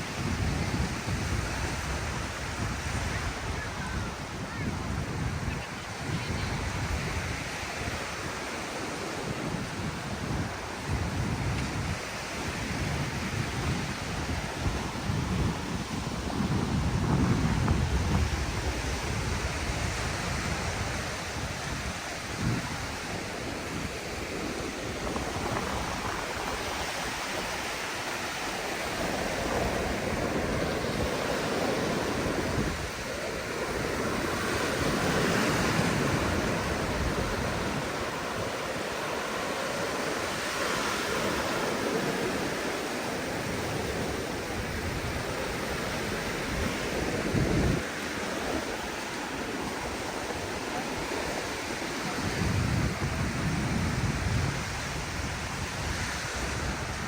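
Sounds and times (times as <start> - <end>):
sea surf breaking on beach: 0.0 - 57.0
wind buffeting microphone: 0.0 - 57.0.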